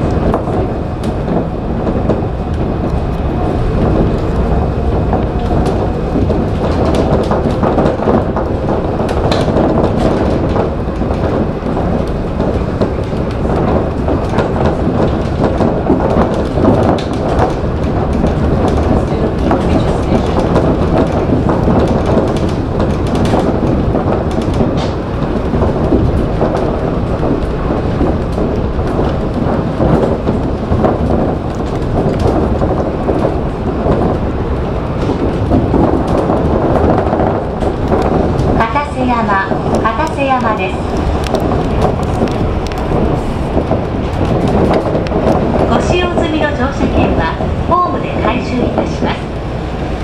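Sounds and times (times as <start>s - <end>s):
small rattles and clicks: 0.0s - 49.5s
monorail running rumble: 0.0s - 50.0s.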